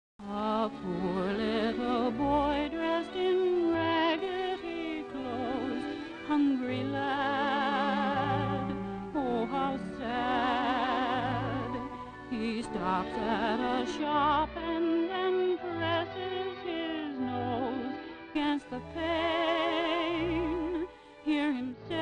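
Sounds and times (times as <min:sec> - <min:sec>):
orchestral cartoon music: 0:00.4 - 0:22.0.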